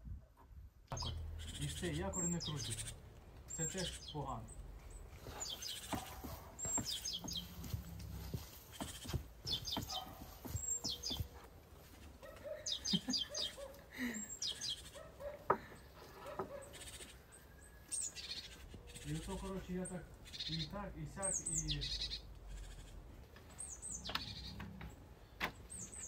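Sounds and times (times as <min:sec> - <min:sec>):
small bird chirping: 0:00.9 - 0:25.0, 0:25.6 - 0:26.0.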